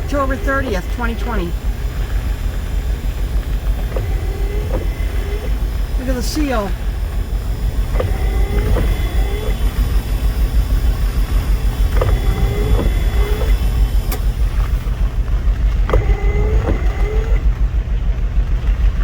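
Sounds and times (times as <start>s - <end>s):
windshield wipers squeaking on glass: 0.0s - 14.9s, 15.8s - 17.5s
wiper click: 0.0s - 17.6s
car engine idling: 0.0s - 19.0s.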